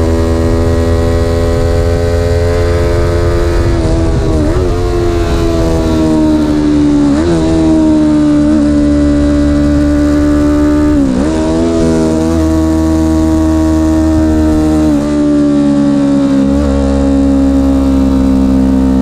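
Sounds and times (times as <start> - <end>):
vehicle engine revving high: 0.0 - 19.0.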